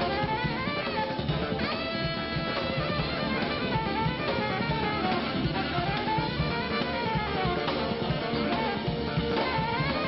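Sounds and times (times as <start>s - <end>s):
alto saxophone lead: 0.0s - 10.0s
drum kit steady beat: 0.0s - 10.0s
live band: 0.0s - 10.0s.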